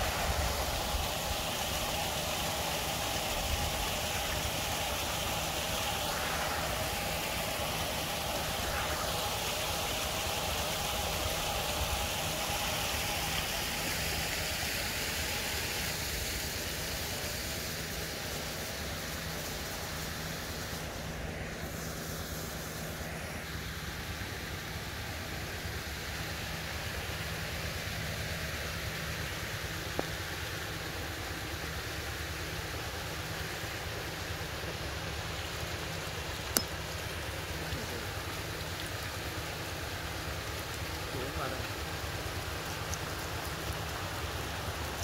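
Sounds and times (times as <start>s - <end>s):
churning water: 0.0s - 23.6s, 24.2s - 45.0s.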